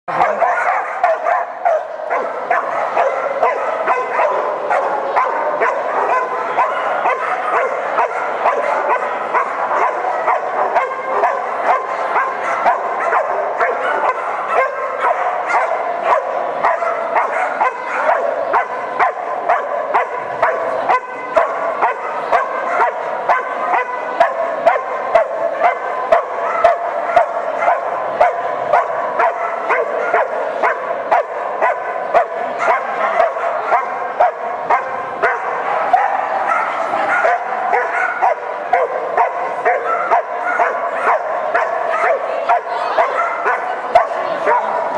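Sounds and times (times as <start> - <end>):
dog barking rapidly: 0.1 - 44.9.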